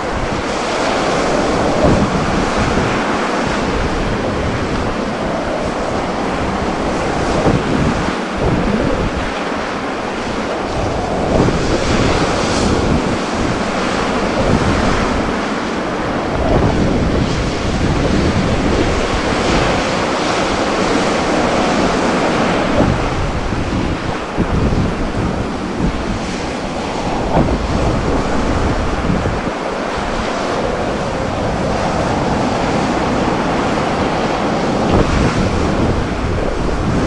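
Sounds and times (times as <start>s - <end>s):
ocean surf breaking: 0.0s - 37.0s
wind buffeting microphone: 0.0s - 37.0s.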